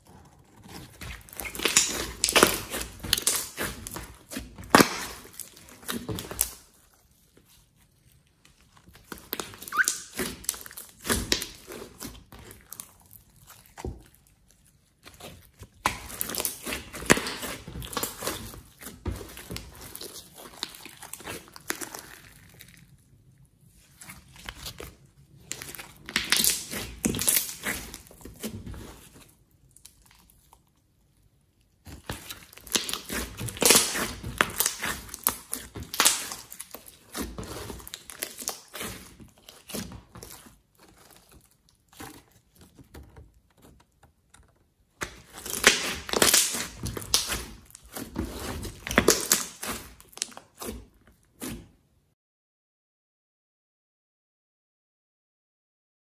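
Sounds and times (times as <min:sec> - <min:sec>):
hands squishing slime: 0:00.0 - 0:30.7, 0:31.8 - 0:43.5, 0:44.2 - 0:51.8.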